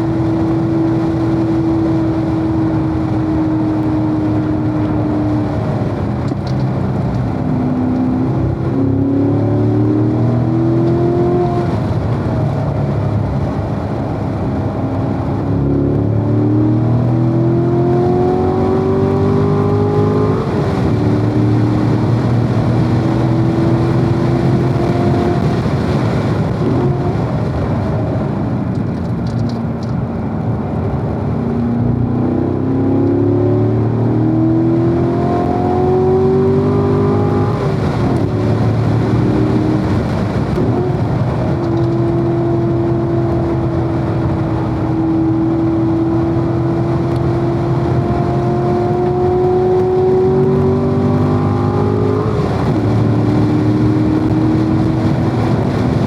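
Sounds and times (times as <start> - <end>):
car engine accelerating hard: 0.0 - 56.0
road and wind noise: 0.0 - 56.0.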